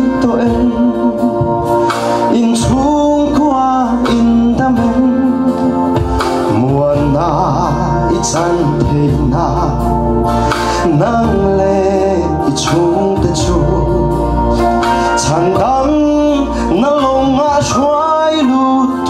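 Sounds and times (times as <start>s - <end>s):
man singing into microphone: 0.0s - 19.0s
sustained backing music: 0.0s - 19.0s.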